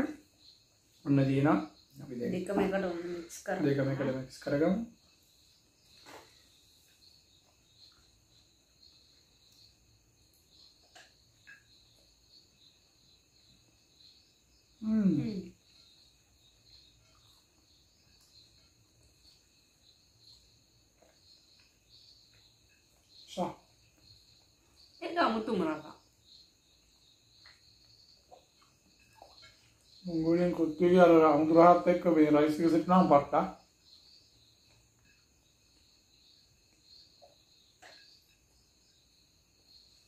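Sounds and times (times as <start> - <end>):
faint insect chirring: 0.0 - 40.0.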